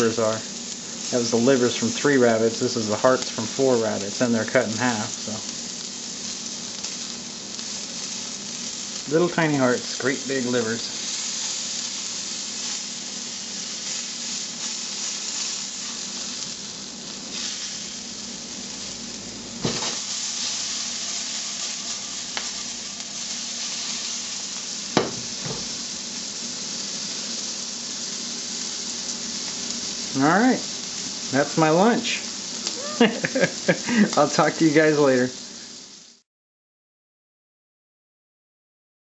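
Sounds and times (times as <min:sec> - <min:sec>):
meat sizzling in a pan: 0:00.0 - 0:36.2.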